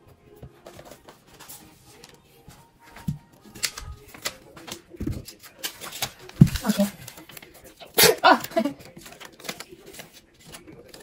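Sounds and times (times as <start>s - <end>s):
paper rustling: 0.4s - 11.0s.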